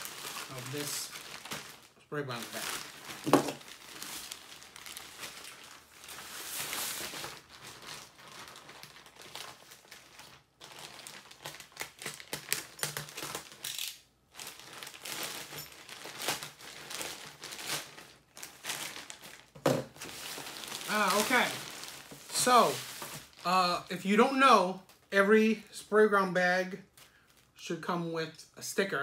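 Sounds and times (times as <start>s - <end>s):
plastic bag tearing: 0.0s - 23.6s
plastic bag crinkling: 0.0s - 24.1s.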